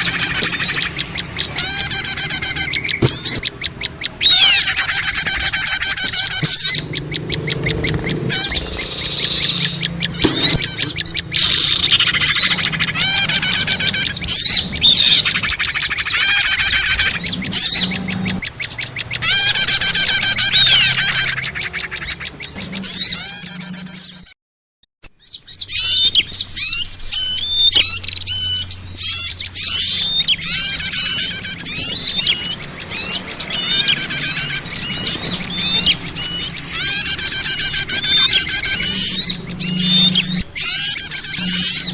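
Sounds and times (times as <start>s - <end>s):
songbirds chirping and trilling: 0.0s - 24.4s, 25.0s - 41.9s.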